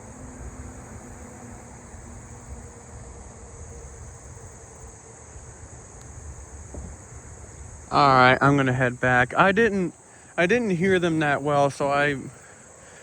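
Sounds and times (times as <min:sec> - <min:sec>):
crickets and katydids chirping: 0:00.0 - 0:13.0.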